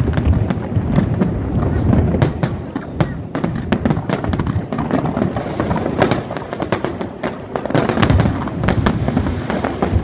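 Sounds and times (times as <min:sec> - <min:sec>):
fireworks bursting with crackles: 0:00.0 - 0:10.0.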